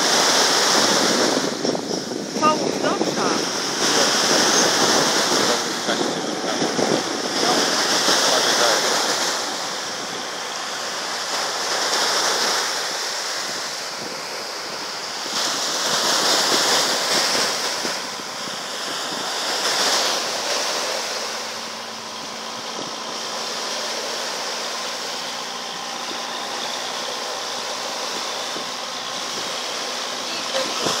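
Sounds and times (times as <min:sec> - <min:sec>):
faint boat engine hum: 0:00.0 - 0:31.0
small waves breaking on beach: 0:00.0 - 0:31.0.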